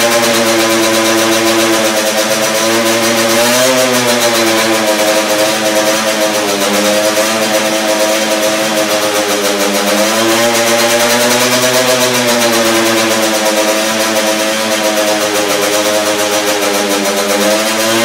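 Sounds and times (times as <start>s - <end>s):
two-stroke motorcycle engine running: 0.0s - 18.0s.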